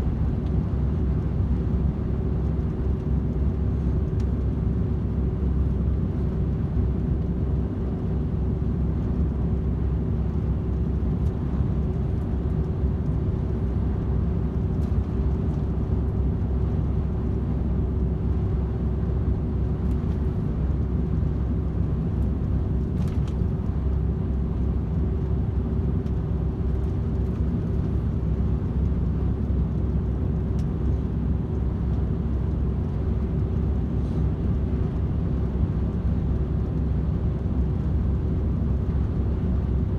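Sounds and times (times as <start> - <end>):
constant hum: 0.0 - 39.9
truck engine drone: 0.0 - 39.9.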